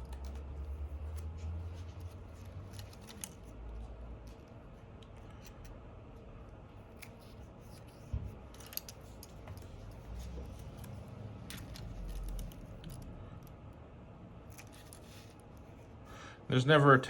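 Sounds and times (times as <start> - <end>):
low rumble of handling: 0.0 - 16.0.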